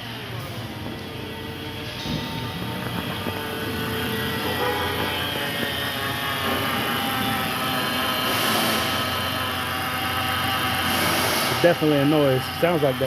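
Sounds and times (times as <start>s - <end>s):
belt drive whine: 0.0s - 13.0s
car engine idling: 0.0s - 13.0s.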